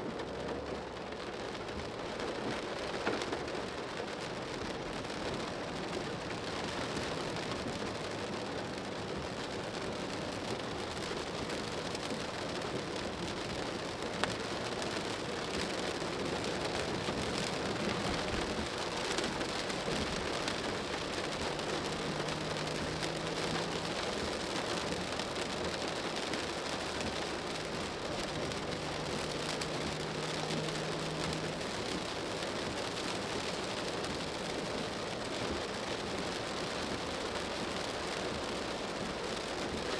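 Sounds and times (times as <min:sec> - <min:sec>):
rain on car roof: 0:00.0 - 0:39.9
tyres hissing on wet road: 0:00.1 - 0:39.9.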